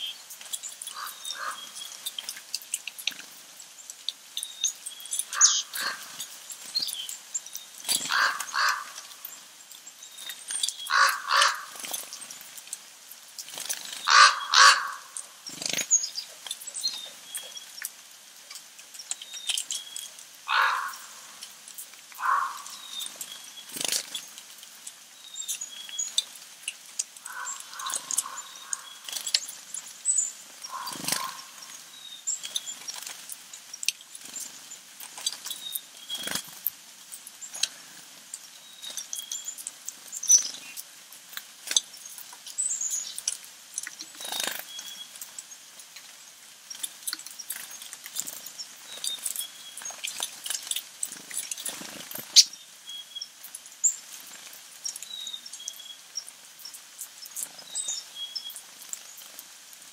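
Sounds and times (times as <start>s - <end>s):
small birds chirping: 0.0s - 59.6s.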